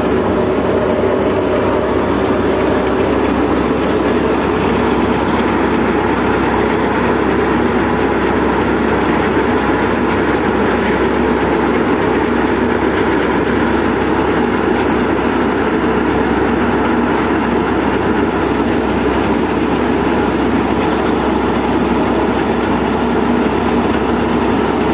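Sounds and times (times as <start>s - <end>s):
thresher mechanical drone: 0.0s - 24.8s.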